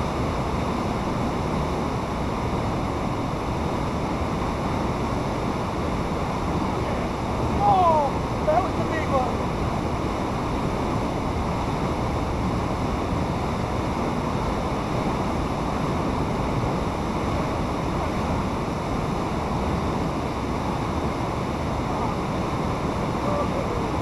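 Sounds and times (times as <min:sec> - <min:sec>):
water rushing through a channel: 0:00.0 - 0:24.0.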